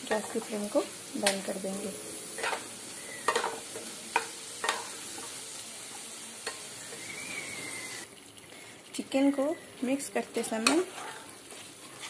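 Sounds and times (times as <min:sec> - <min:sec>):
faint oil sizzle: 0:00.0 - 0:12.0
potatoes stirred in pan: 0:00.0 - 0:12.0.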